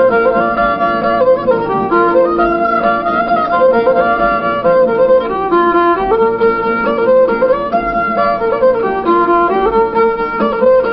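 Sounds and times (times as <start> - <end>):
solo fiddle dance tune: 0.0 - 10.9.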